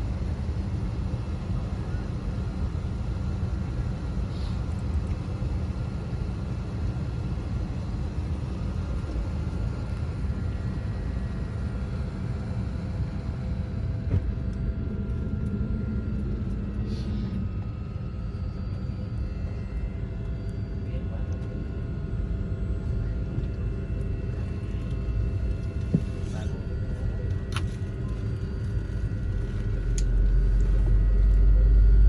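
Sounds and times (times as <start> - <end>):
faint steady whine: 0.0 - 32.0
jet engines idling: 0.0 - 32.0.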